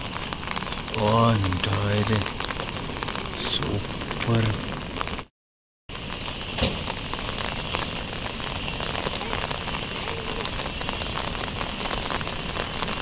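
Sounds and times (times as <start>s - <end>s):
rain falling: 0.0s - 5.3s, 5.9s - 13.0s.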